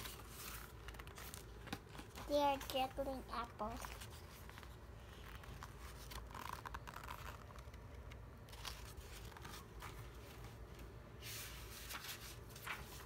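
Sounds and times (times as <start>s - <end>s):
book pages rustling: 0.0s - 13.0s.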